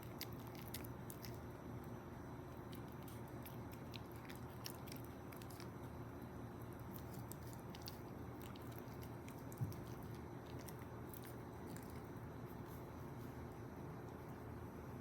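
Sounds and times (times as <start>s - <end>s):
puppy chewing food: 0.0s - 14.4s.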